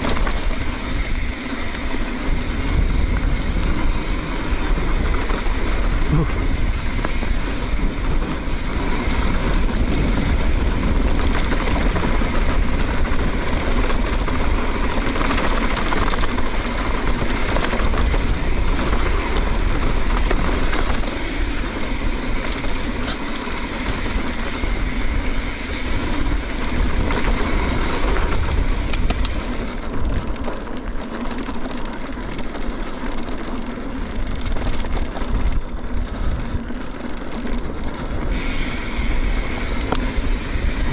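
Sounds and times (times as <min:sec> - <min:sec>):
tyre and wind rush: 0:00.0 - 0:30.4, 0:37.8 - 0:40.9
bike rattling: 0:00.0 - 0:40.9.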